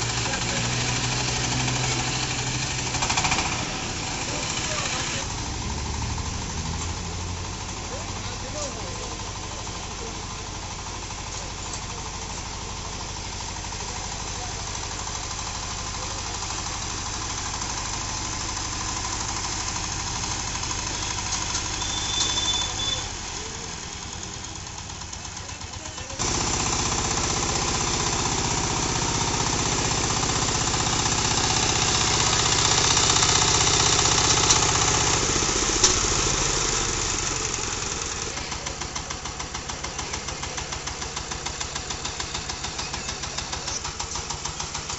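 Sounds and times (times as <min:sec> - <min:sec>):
diesel tiller engine knocking: 0:00.0 - 0:44.9.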